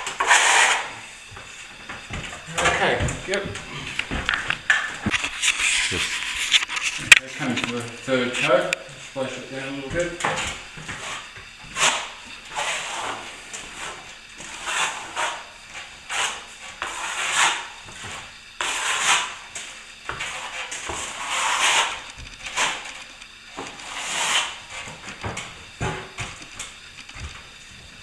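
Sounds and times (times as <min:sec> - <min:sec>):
plastering blade scraping plaster: 0:00.0 - 0:27.4.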